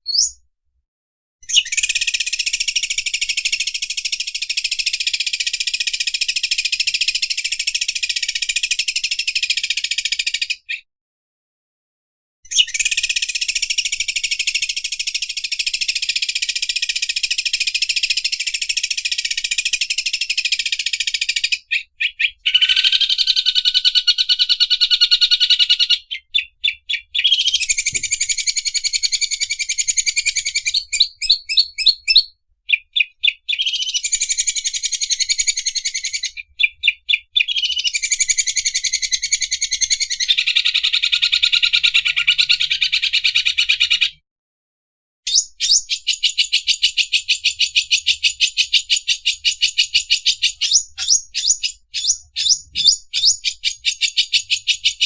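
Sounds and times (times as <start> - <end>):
bird singing rattling trill: 0.0 - 0.4, 1.4 - 10.8, 12.5 - 44.2, 45.3 - 55.0.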